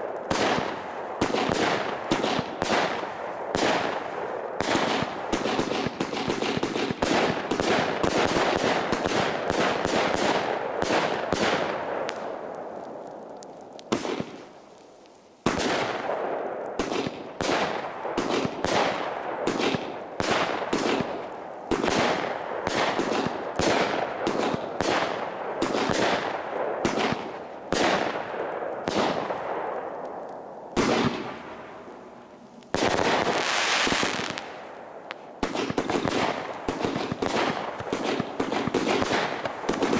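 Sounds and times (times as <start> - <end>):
firework shots sharp reports: 0.0 - 13.1, 13.8 - 14.5, 15.4 - 39.9
firework crackling: 0.0 - 39.9.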